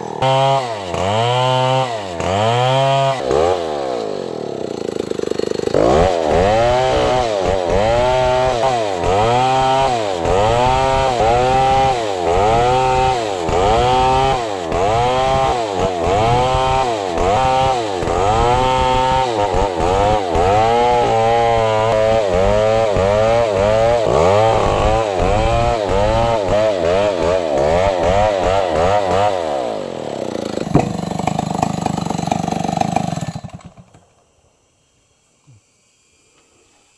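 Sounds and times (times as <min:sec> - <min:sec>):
chainsaw cutting wood: 0:00.0 - 0:34.3.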